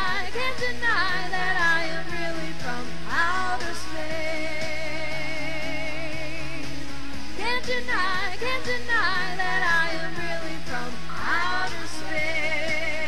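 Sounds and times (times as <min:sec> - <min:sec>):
pop song singing: 0:00.0 - 0:13.0.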